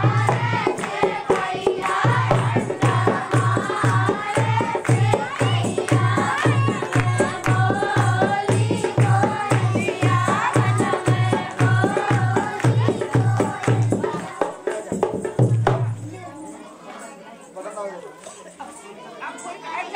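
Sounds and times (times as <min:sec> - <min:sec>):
heavy drum beat: 0:00.0 - 0:16.0
folk dance song singing: 0:00.0 - 0:16.3.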